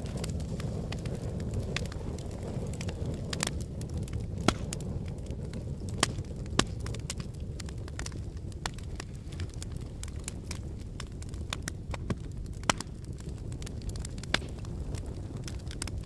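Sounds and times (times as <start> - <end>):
fire pops and snaps: 0.0 - 16.0
wood fire crackling: 0.0 - 16.0.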